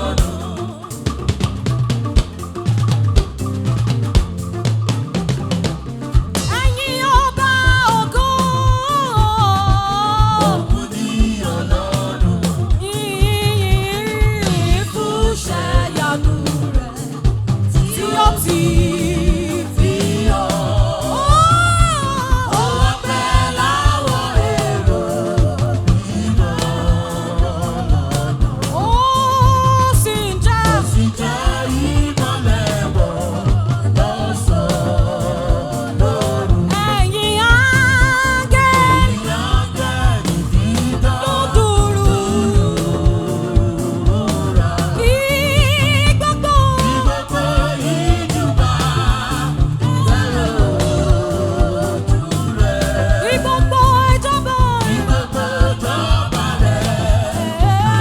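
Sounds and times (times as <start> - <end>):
lead voice singing with vibrato: 0.0 - 1.9, 6.4 - 58.0
live band playing: 0.0 - 58.0
steady drum beat: 0.0 - 58.0.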